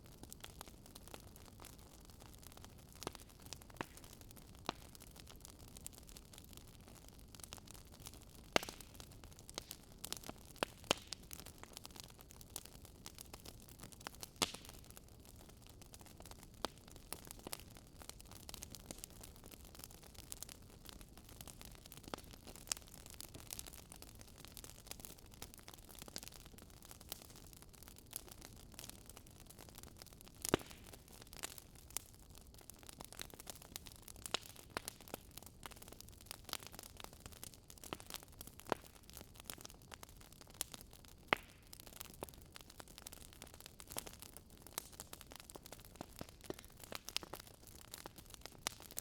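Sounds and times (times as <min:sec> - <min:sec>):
fire popping and snapping: 0:00.0 - 0:49.0
wood fire crackling: 0:00.0 - 0:49.0.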